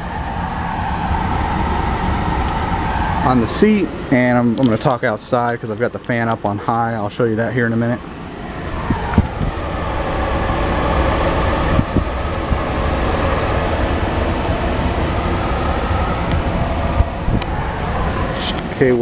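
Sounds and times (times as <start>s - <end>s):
car engine idling: 0.0s - 19.0s
ventilation fan blowing: 0.0s - 19.0s.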